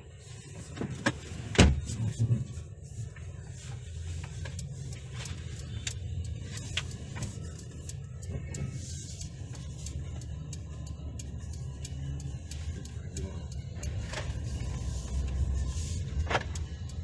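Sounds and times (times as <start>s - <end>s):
engine and road rumble in cabin: 0.0s - 17.0s.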